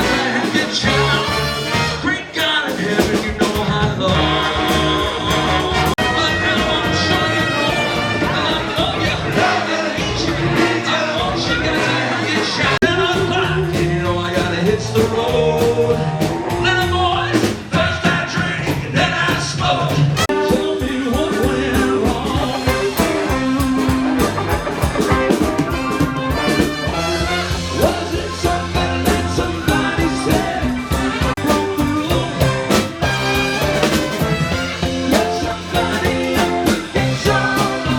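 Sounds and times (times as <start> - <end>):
horn section: 0.0 - 3.1, 4.0 - 13.5, 20.1 - 37.9
live band playing upbeat music: 0.0 - 37.9
drum beat: 2.7 - 37.9.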